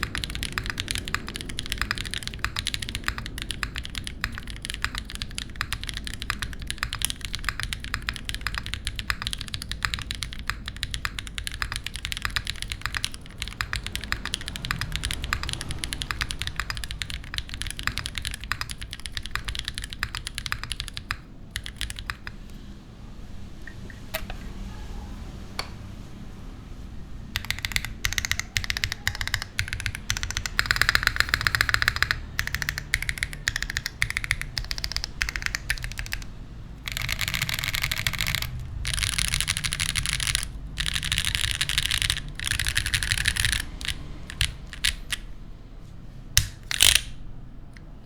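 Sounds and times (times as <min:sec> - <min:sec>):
fast mechanical keyboard typing: 0:00.0 - 0:22.6, 0:27.3 - 0:45.3, 0:46.4 - 0:47.2.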